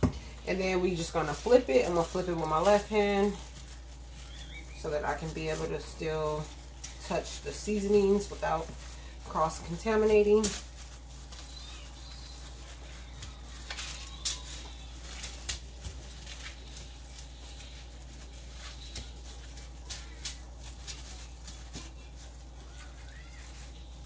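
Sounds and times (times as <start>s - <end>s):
raw chicken handled: 0.0s - 24.0s.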